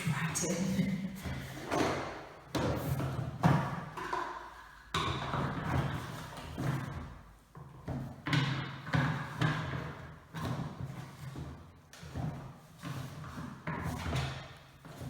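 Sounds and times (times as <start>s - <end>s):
plastic tubes knocking and scraping: 1.2s - 15.0s.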